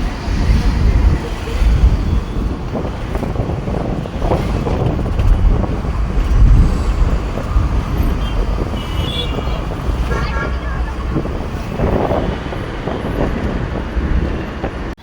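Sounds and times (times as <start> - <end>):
street traffic rumble: 0.0 - 15.0
wind buffeting microphone: 0.0 - 15.0.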